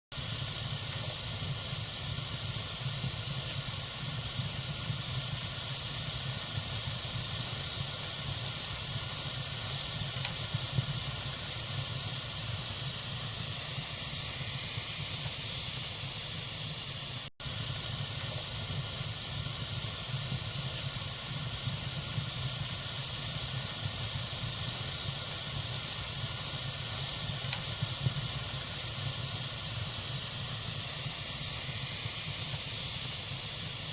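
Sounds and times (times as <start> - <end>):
wood fire hissing and crackling: 0.1 - 33.9.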